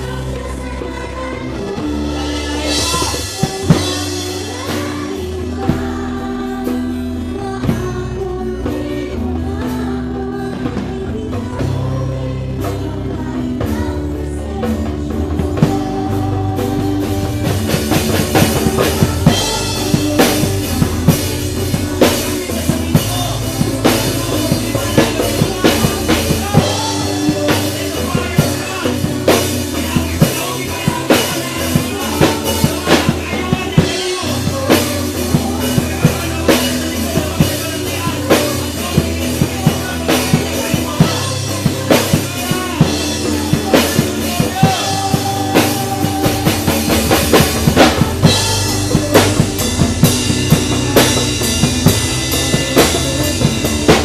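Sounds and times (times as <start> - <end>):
band playing worship song: 0.0 - 54.0
drum kit beat: 0.0 - 54.0
sustained bass line: 0.0 - 54.0.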